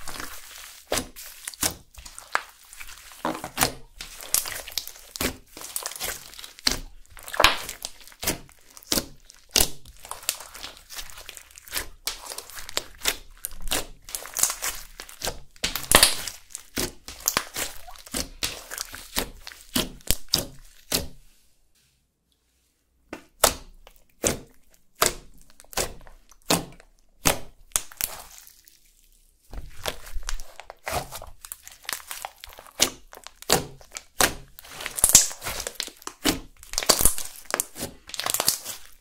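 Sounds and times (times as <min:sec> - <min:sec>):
slime squelching and popping: 0:00.0 - 0:21.2, 0:23.2 - 0:39.0.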